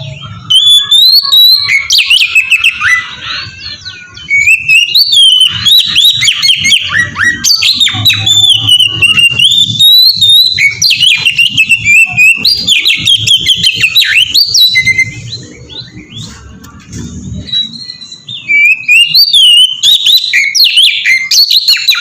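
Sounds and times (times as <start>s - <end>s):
bird singing whistles and trills: 0.0s - 22.0s.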